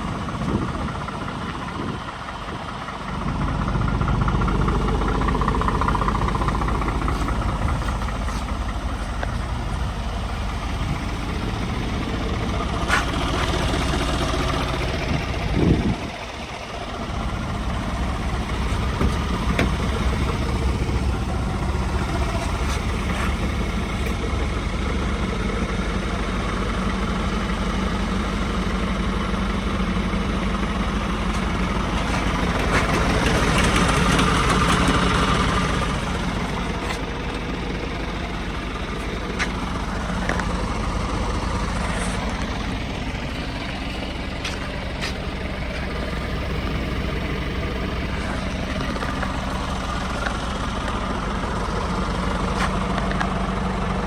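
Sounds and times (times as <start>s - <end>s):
diesel truck idling: 0.0s - 54.0s.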